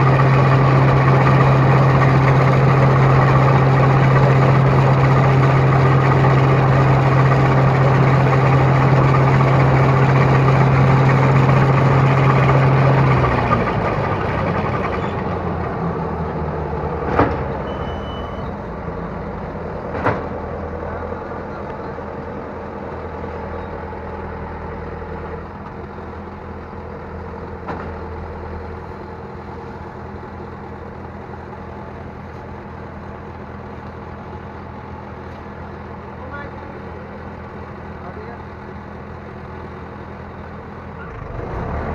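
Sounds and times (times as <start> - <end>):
harvester engine running: 0.0 - 41.9.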